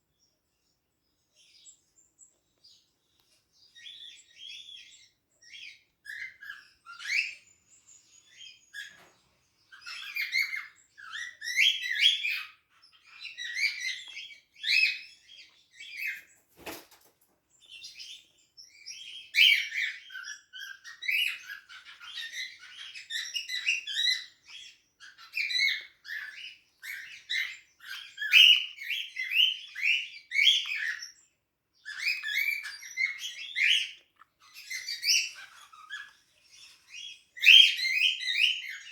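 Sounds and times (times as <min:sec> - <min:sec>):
cockatiels chirping: 0:03.6 - 0:16.8, 0:17.6 - 0:38.9.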